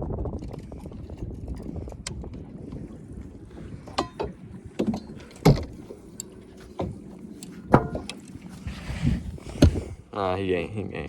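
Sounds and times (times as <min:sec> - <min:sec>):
knocks and clatters in boat: 0:00.0 - 0:10.1
wind rumble on microphone: 0:00.0 - 0:11.0.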